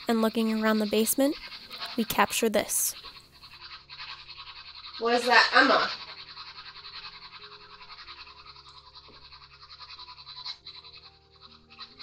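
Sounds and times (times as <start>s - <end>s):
rapid pulsing hiss: 0.1s - 11.2s.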